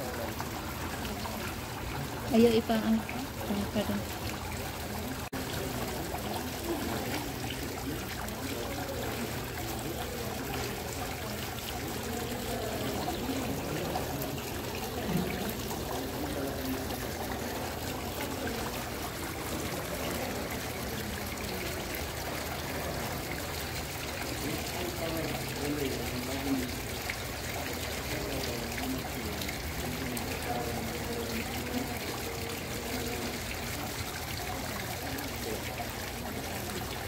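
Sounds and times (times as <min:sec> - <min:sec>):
water trickling into basin: 0:00.0 - 0:37.0.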